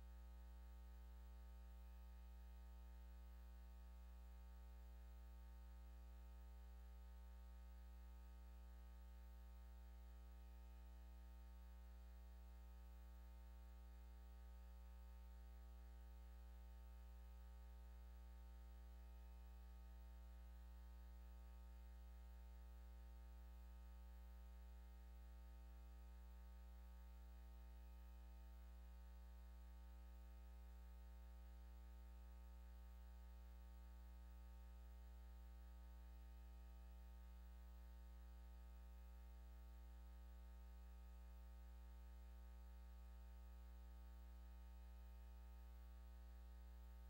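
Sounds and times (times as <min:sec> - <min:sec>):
faint low hum: 0:00.0 - 0:47.0.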